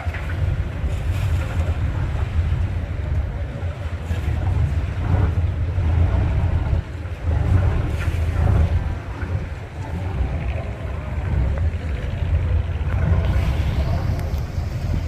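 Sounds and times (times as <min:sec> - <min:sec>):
boat engine idling: 0:00.0 - 0:15.0
wind buffeting microphone: 0:00.0 - 0:15.0.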